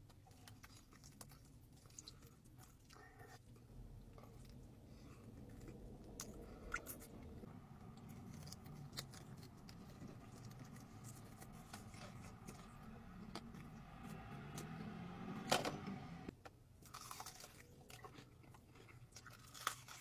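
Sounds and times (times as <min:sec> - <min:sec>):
soft chewing: 0:00.0 - 0:14.9, 0:16.8 - 0:20.0.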